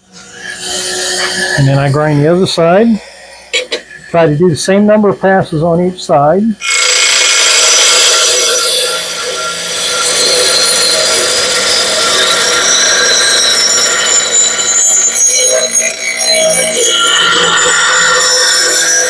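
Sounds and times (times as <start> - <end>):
blade on grinding wheel: 0.0 - 5.9, 6.5 - 19.0.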